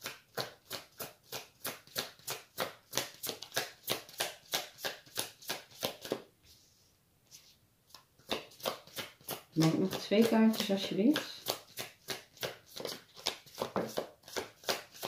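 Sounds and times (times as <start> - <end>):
cards being shuffled: 0.0 - 6.2, 7.3 - 15.0.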